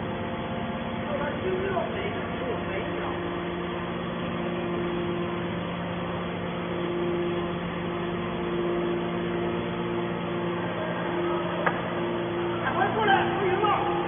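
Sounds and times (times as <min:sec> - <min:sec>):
baler machine hum: 0:00.0 - 0:14.0.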